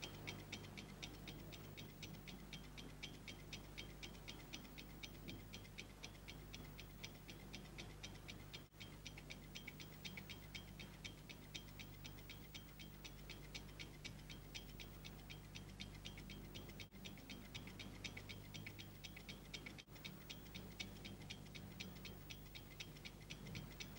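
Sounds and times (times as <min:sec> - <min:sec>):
clock ticking quickly: 0:00.0 - 0:23.9
steady low hum: 0:00.0 - 0:23.9.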